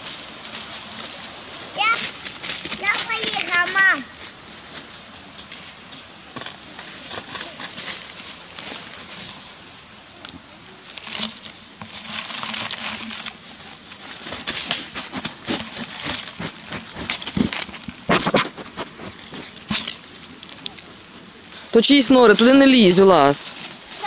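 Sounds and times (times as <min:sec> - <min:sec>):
goat rustling against camera: 0:00.0 - 0:24.0.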